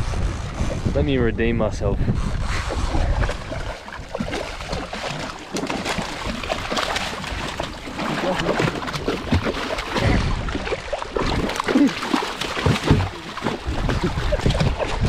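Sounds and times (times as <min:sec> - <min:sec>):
fish splashing at water surface: 0:02.6 - 0:15.0.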